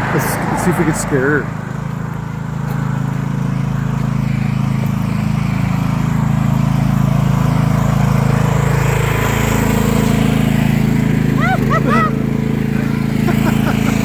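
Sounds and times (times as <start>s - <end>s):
small diesel engine running: 0.0s - 14.0s.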